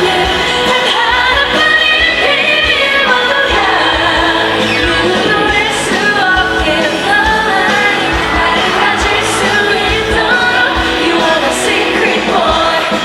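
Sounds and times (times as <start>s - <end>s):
pop-rock band playing: 0.0s - 13.0s.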